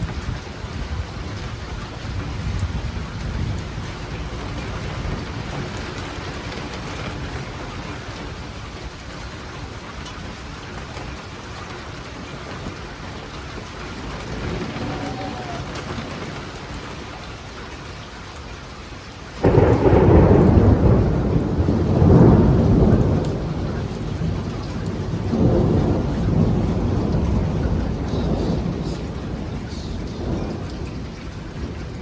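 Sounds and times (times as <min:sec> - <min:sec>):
thunder rumbling: 0:00.0 - 0:10.9, 0:11.6 - 0:18.0, 0:19.4 - 0:32.0
rain falling: 0:00.0 - 0:32.0.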